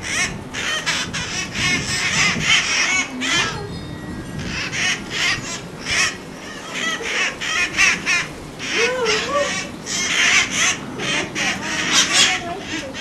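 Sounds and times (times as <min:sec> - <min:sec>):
lower wavering bird call: 0:00.0 - 0:13.0
parakeets screeching: 0:00.0 - 0:13.0.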